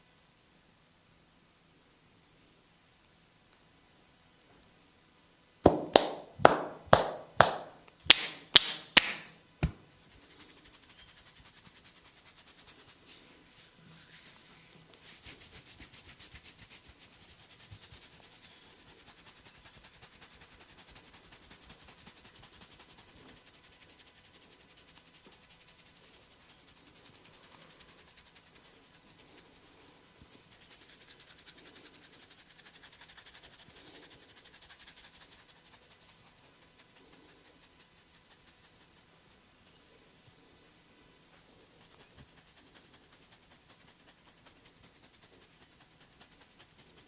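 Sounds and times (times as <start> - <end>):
fingers scratching through hair: 5.7 - 40.5, 41.3 - 47.0.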